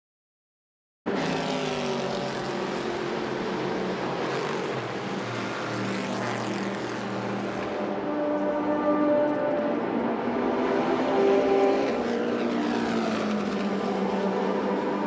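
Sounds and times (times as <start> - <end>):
race car engine drone: 1.1 - 15.0.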